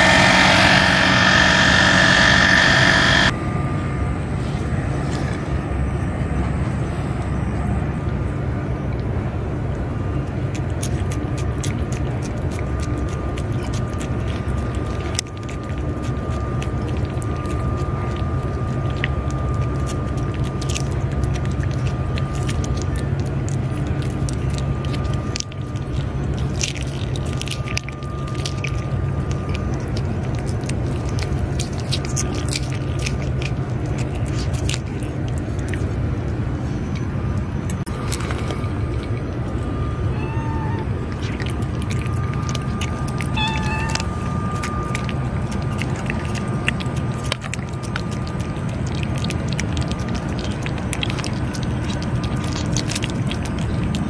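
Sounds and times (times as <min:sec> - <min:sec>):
steady low rumble: 0:00.0 - 0:54.0
cat licking and chewing: 0:06.3 - 0:54.0.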